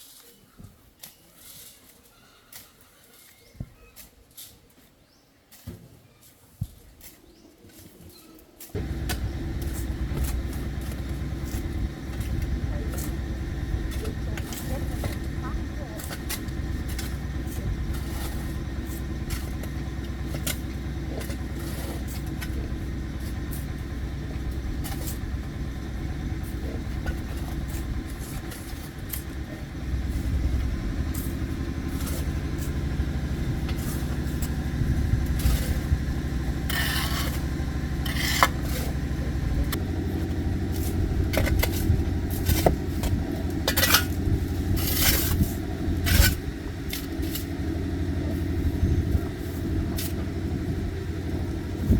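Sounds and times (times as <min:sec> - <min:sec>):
engine running: 0:08.8 - 0:51.9.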